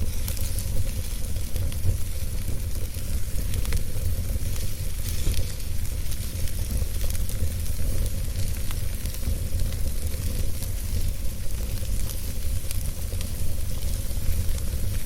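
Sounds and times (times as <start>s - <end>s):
wood fire burning and crackling: 0.0s - 15.0s.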